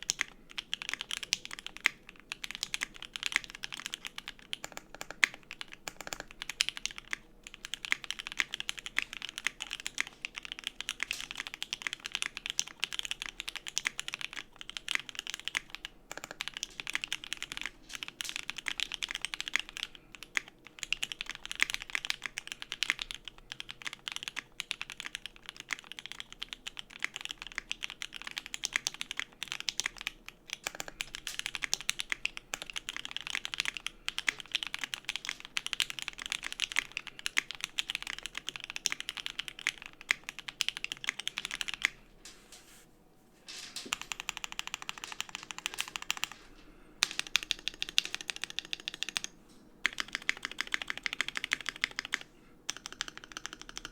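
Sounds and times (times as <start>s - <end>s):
fast typing on mechanical keyboard: 0.0s - 42.0s, 43.8s - 46.4s, 47.0s - 53.9s.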